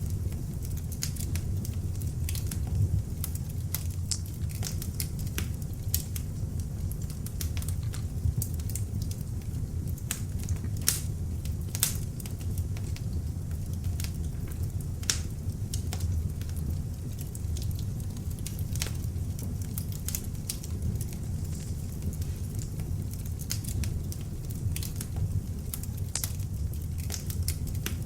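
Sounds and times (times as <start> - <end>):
fire flames rumbling: 0.0 - 28.0
log fire crackling and popping: 0.0 - 28.0.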